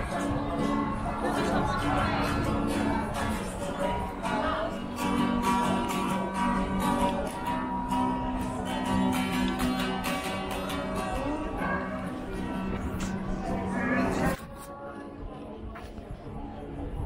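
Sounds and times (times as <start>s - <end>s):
strummed acoustic guitar music: 0.0s - 14.7s.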